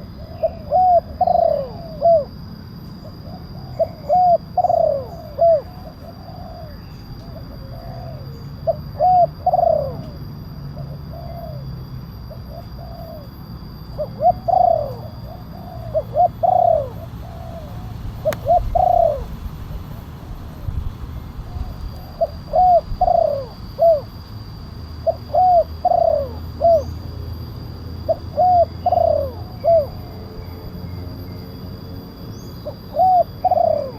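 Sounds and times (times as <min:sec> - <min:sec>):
dove cooing: 0:00.0 - 0:20.7, 0:21.4 - 0:30.9, 0:32.3 - 0:33.9.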